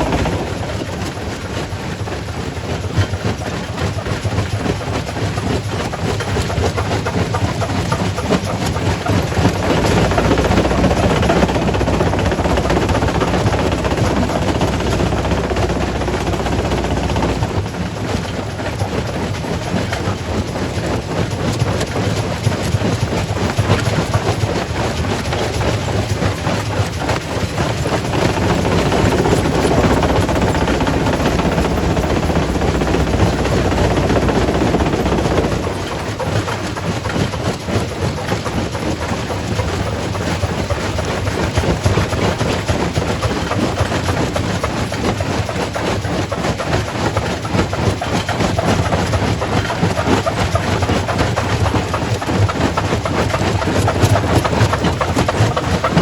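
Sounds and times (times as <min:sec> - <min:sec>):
rock crusher grinding stone: 0:00.0 - 0:01.5, 0:04.4 - 0:20.5, 0:21.2 - 0:56.0
cracking and clattering rock: 0:00.0 - 0:02.0, 0:02.9 - 0:20.1, 0:20.8 - 0:56.0.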